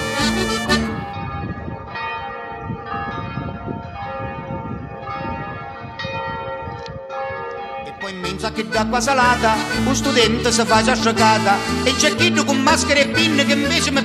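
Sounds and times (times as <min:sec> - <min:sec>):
church bells ringing: 0:00.0 - 0:14.0.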